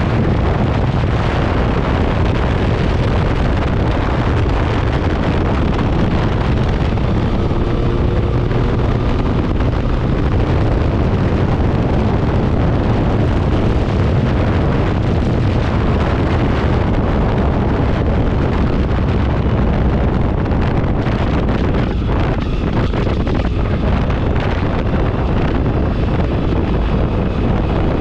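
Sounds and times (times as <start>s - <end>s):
motorcycle engine drone: 0.0s - 28.0s
wind buffeting microphone: 0.0s - 28.0s.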